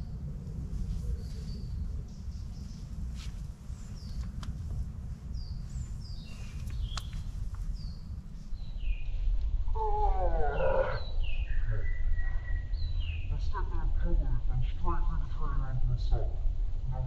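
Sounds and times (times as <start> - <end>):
birds chirping: 0.0 - 14.2
low rumble: 0.0 - 17.0.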